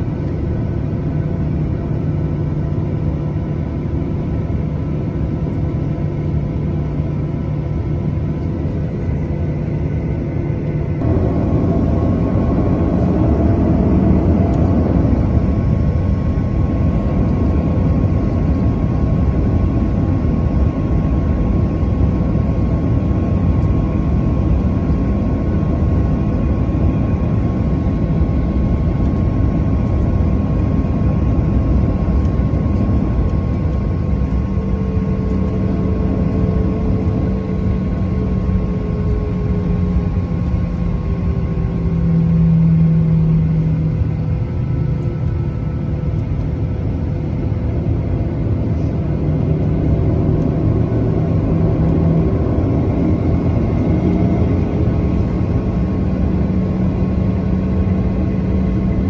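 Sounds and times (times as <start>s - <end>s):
high engine whine: 0.0s - 59.0s
jet engine rumble in cabin: 0.0s - 59.0s.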